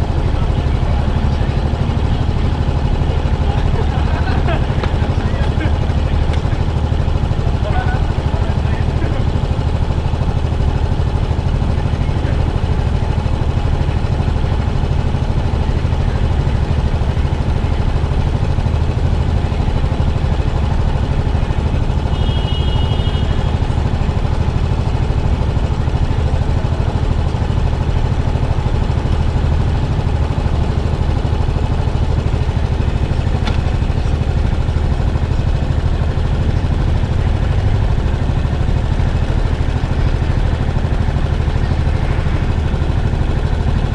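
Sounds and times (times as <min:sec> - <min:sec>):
motorcycle engine running steadily: 0:00.0 - 0:43.9.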